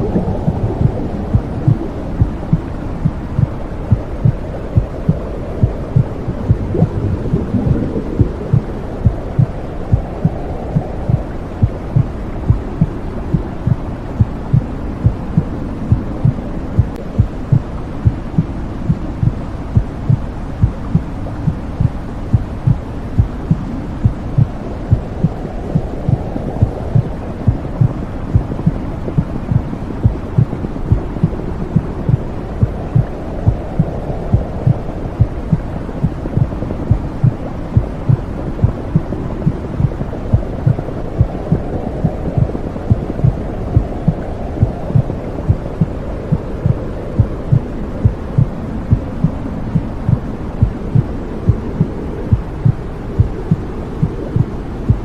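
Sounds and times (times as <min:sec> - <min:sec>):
heartbeat thumping: 0:00.0 - 0:55.0
low whooshing rush: 0:00.0 - 0:55.0.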